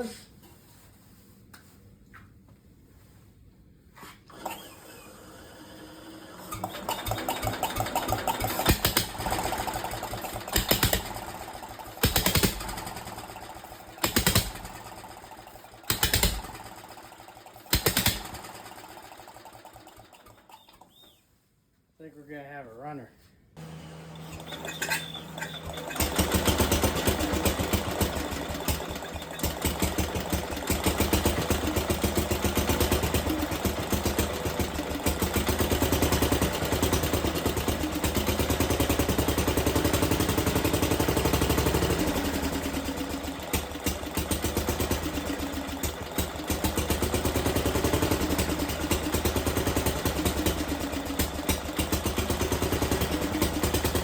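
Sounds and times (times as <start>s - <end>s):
tractor engine starting and running: 4.3s - 21.1s, 23.6s - 54.0s.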